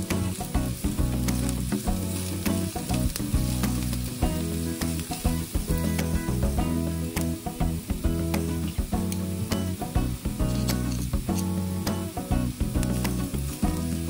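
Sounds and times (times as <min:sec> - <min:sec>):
background music: 0:00.0 - 0:14.0
onion sizzling in a frying pan: 0:00.0 - 0:14.0
spatula scraping and tapping pan: 0:00.0 - 0:14.0.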